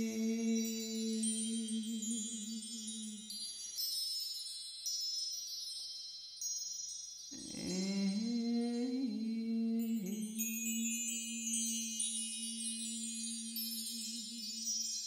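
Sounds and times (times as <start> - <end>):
chimes ringing: 0.0 - 15.0.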